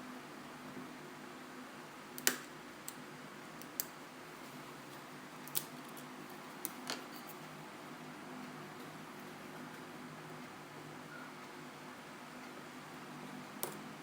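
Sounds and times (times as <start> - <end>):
faint hiss and hum: 0.0 - 14.0.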